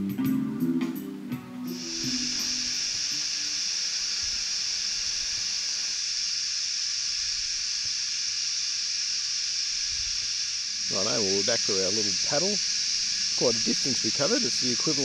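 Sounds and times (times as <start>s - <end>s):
high-pitched hiss: 1.6s - 15.0s.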